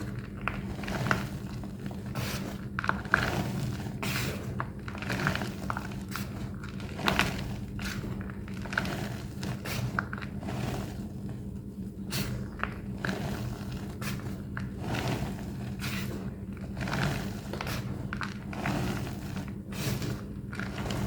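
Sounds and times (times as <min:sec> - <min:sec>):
chalk block crunching: 0:00.0 - 0:21.0.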